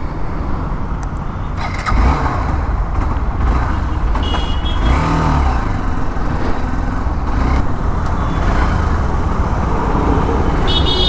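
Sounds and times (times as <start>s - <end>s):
motorcycle engine and wind rumble: 0.0s - 11.0s.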